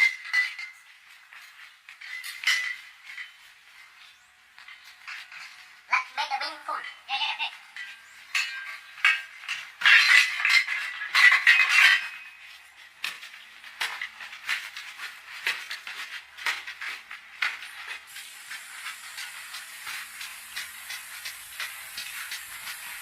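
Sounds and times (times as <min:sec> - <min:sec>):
light clinks knocks and scrapes: 0:00.0 - 0:05.9, 0:07.6 - 0:23.0.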